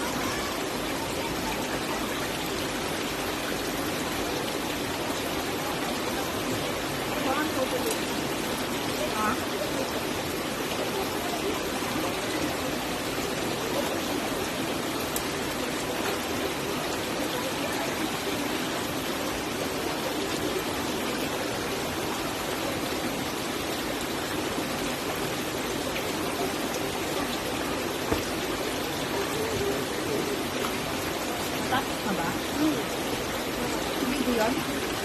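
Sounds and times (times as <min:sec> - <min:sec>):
stream and waterfall rushing: 0:00.0 - 0:35.0.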